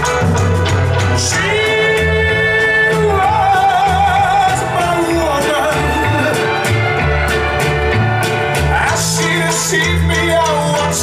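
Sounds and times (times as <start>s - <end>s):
repeating bass beat: 0.0s - 11.0s.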